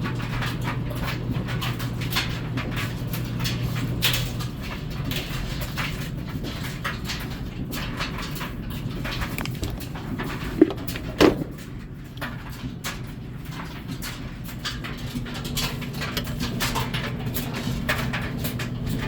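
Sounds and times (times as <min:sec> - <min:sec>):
washing machine motor hum: 0:00.0 - 0:19.0
water swishing in drum: 0:00.0 - 0:19.0.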